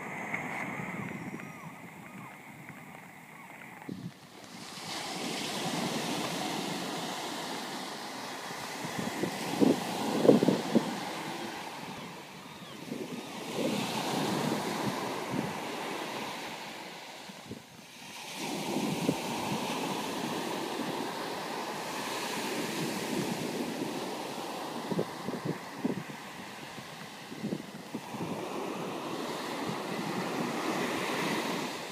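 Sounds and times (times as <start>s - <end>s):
sea waves breaking on beach: 0.0s - 31.9s
wind rumbling on microphone: 0.0s - 31.9s.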